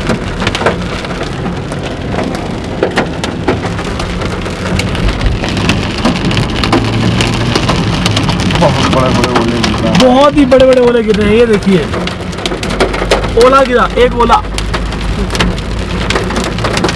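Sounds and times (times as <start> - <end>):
hail and rain on car roof: 0.0 - 16.9.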